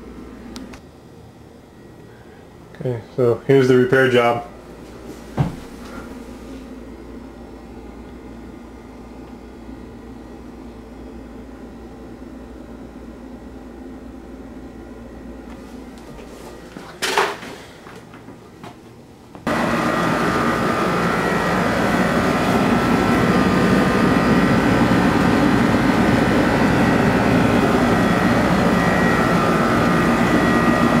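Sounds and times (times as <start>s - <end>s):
clothes dryer whirring: 0.0s - 31.0s
faint steady hum: 0.0s - 31.0s.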